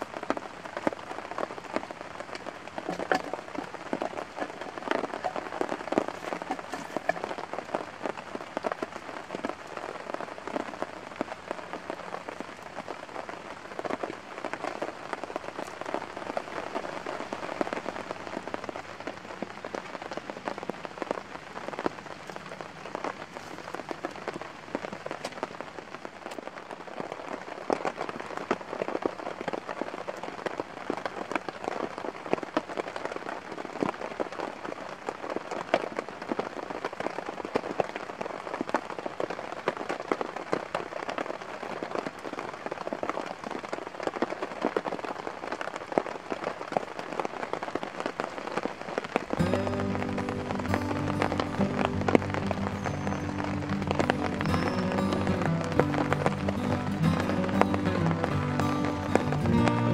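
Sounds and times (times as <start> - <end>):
raindrops ticking close by: 0.0 - 59.9
steady rain falling: 0.0 - 59.9.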